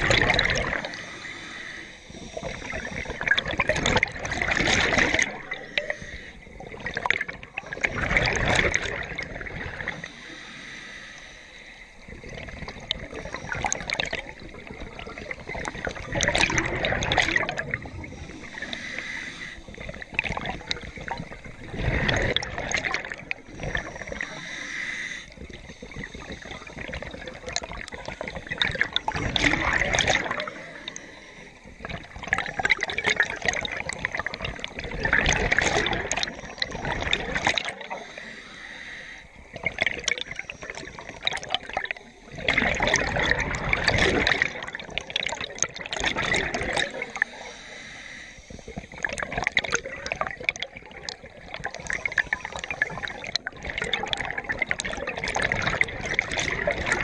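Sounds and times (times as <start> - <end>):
bubbles gurgling: 0.0 - 10.4, 12.0 - 38.5, 39.3 - 47.6, 48.5 - 57.0
diver breathing through regulator: 0.0 - 32.2, 33.6 - 44.6, 46.7 - 49.9.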